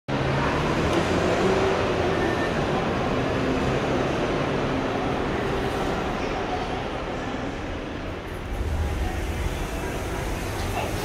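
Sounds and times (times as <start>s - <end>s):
bus terminal hall din: 0.1s - 11.0s.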